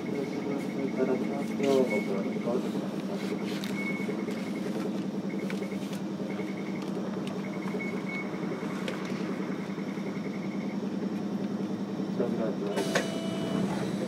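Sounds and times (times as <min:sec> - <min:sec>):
tram interior hum: 0:00.0 - 0:14.0.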